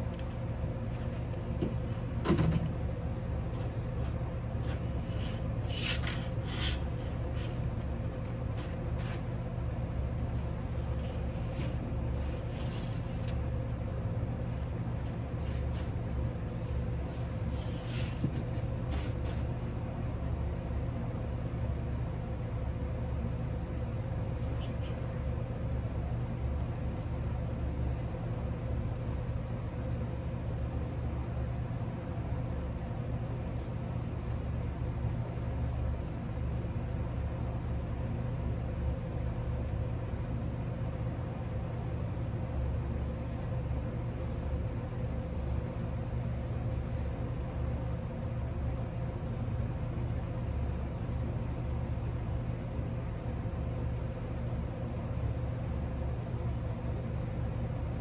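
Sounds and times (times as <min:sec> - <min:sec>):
machine hum with whine: 0:00.0 - 0:58.0.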